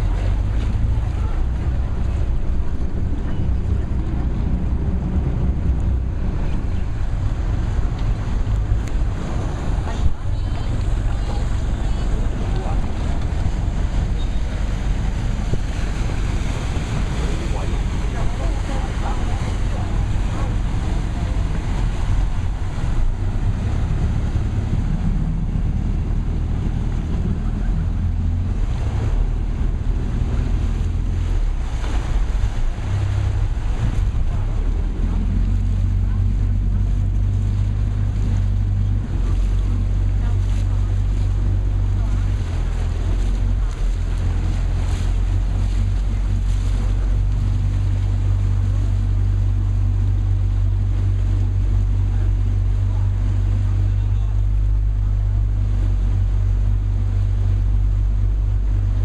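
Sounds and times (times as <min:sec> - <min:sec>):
boat engine running: 0:00.0 - 0:59.0
water rushing along hull: 0:00.0 - 0:59.0
wind buffeting microphone: 0:00.0 - 0:59.0.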